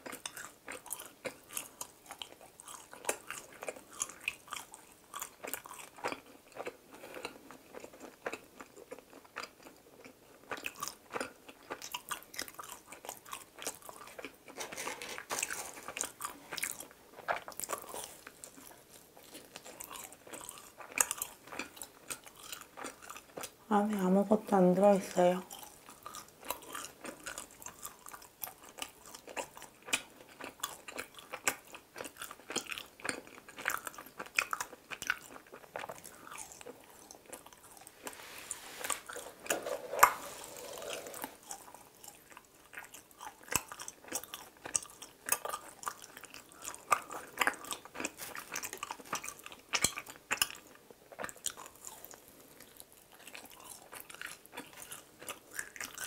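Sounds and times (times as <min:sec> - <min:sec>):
chewing crunchy donut: 0:00.0 - 0:24.2, 0:25.4 - 0:38.2, 0:38.8 - 0:56.0.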